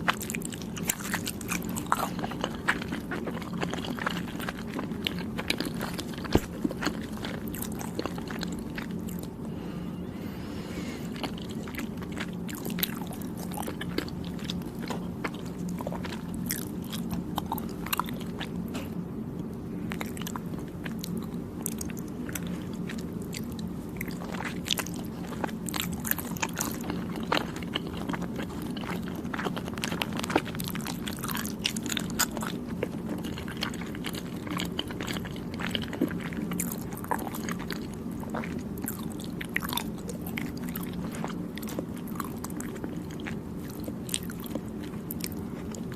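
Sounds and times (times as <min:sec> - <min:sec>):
chewing with wet clicks: 0:00.0 - 0:09.5, 0:11.1 - 0:45.9
steady low hum: 0:00.0 - 0:45.9.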